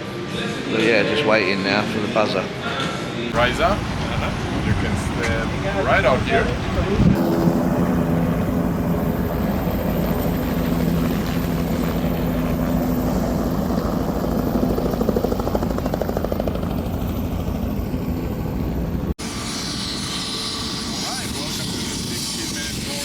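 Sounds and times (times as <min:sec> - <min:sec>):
helicopter rotor and engine: 0:03.3 - 0:23.0.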